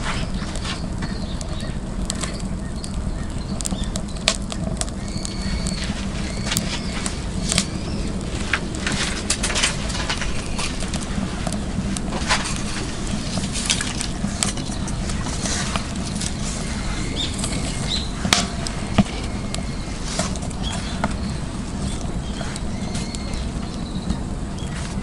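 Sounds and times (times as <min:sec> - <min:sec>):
firewood crackling and popping: 0:00.0 - 0:25.0
low rumble: 0:00.0 - 0:25.0.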